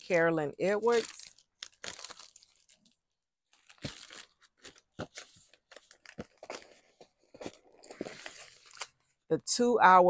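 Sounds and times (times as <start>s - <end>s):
paper rustling and crinkling: 0.8s - 9.0s.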